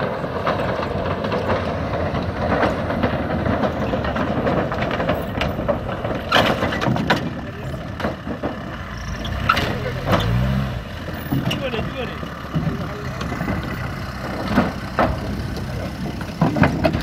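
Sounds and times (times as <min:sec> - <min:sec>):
metal deck plates clanking: 0:00.0 - 0:17.0
van engine running: 0:00.0 - 0:17.0.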